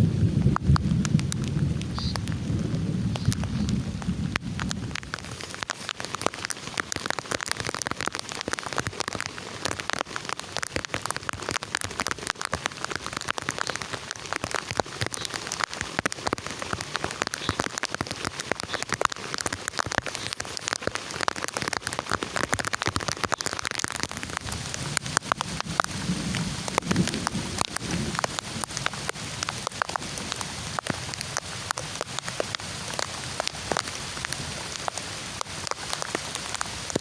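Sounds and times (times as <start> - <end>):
heavy rain falling: 0.0 - 37.0
raindrops tapping a surface: 0.0 - 37.0.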